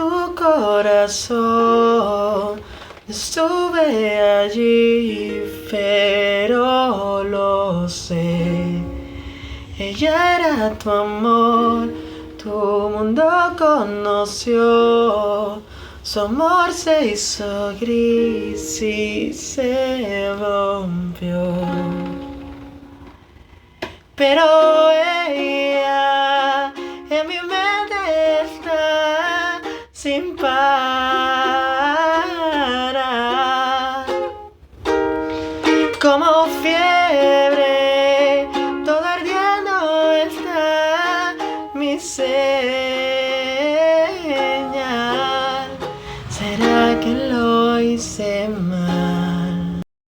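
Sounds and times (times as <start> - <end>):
acoustic ukulele: 0.0 - 49.9
person singing gentle melody: 0.0 - 49.9.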